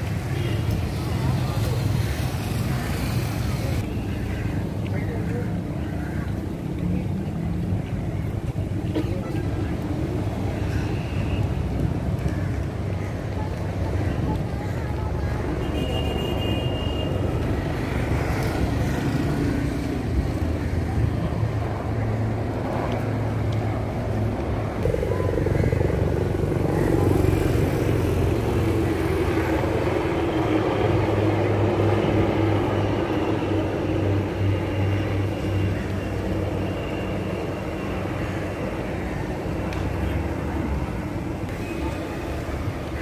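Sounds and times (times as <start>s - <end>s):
helicopters droning overhead: 0.0s - 15.8s, 16.8s - 43.0s.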